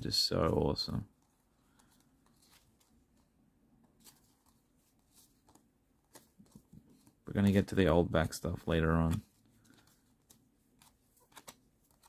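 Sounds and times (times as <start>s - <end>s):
trading cards flipped through: 1.7s - 7.6s, 8.2s - 12.0s.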